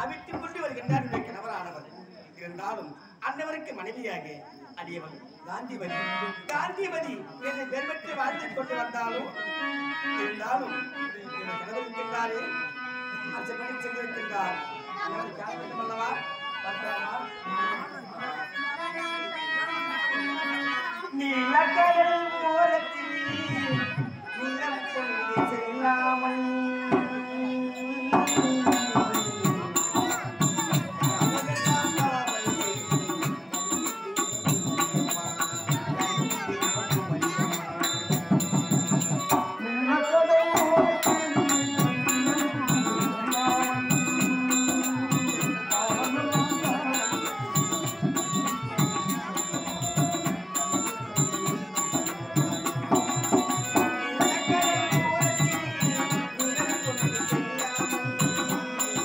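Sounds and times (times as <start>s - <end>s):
harmonium melody: 5.5s - 59.0s.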